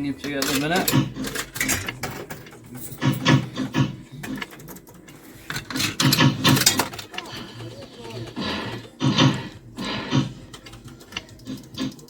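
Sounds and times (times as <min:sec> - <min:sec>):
slot machine mechanism clattering: 0:00.0 - 0:12.0.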